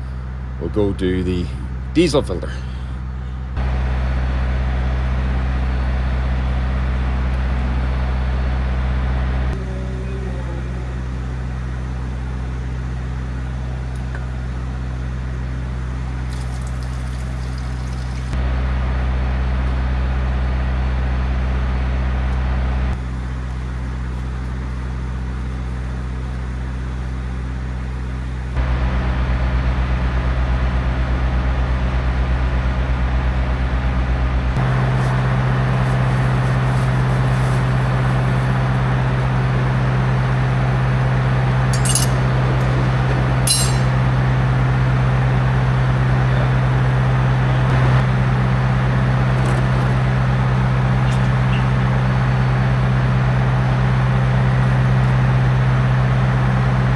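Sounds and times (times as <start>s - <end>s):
engine-driven pumps droning: 0.0s - 56.9s.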